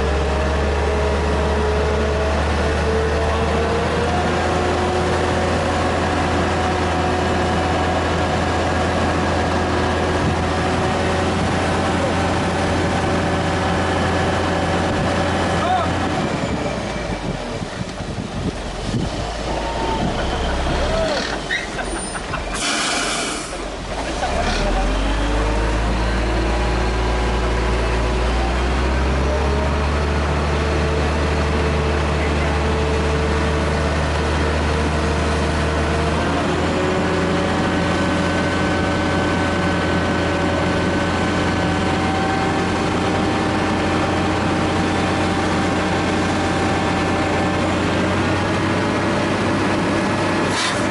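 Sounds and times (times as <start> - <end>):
diesel machinery engine drone: 0.0 - 50.9.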